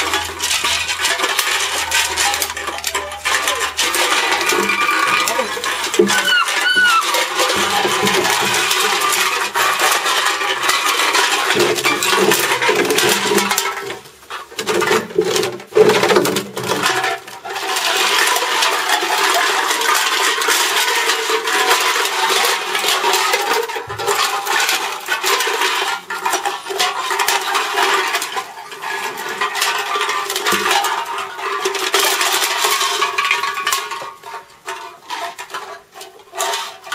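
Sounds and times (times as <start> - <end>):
cans clattering on paving stones: 0.0 - 36.9.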